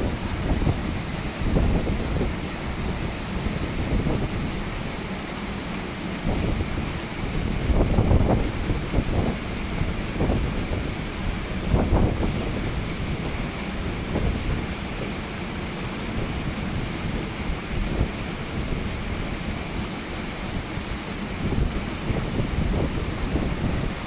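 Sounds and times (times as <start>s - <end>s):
wind buffeting microphone: 0.0s - 5.2s, 6.1s - 24.0s
waterfall rushing: 0.0s - 24.0s.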